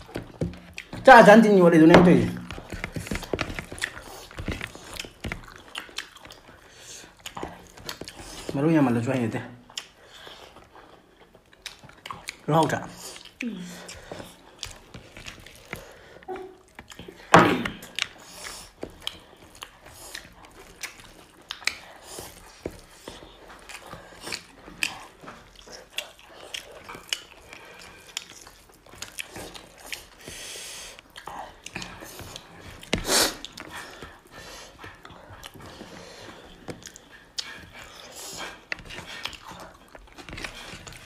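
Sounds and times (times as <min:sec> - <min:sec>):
wet chewing and lip smacking: 0:00.0 - 0:01.1, 0:02.4 - 0:08.6, 0:09.6 - 0:41.0.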